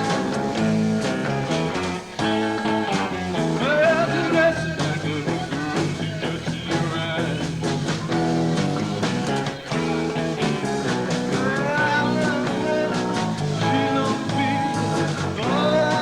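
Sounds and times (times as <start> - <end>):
drum hits: 0.0 - 16.0
live rock band playing: 0.0 - 16.0
wavering guitar lead line: 0.0 - 16.0.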